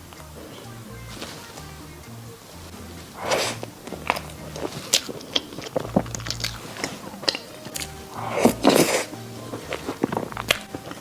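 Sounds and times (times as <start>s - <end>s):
biting and chewing: 0.0s - 11.0s
mouth clicks: 0.0s - 11.0s.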